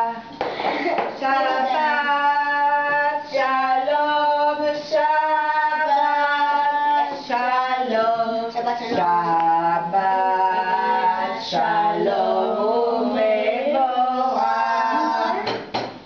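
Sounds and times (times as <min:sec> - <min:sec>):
woman and boys singing: 0:00.0 - 0:15.7.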